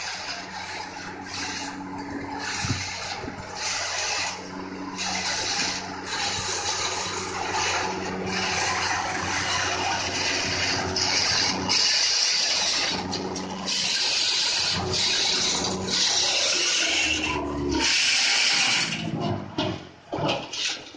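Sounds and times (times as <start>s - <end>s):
stalk shredder chopping plants: 0.0s - 19.8s
tractor engine humming: 0.0s - 20.9s.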